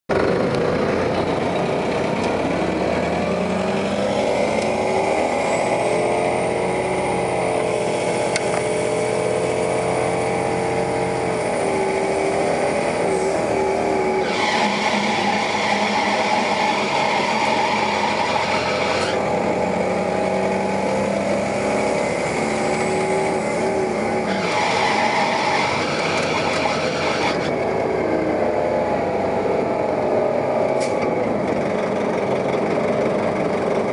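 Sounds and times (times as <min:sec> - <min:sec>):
bus engine and transmission: 0:00.0 - 0:33.9.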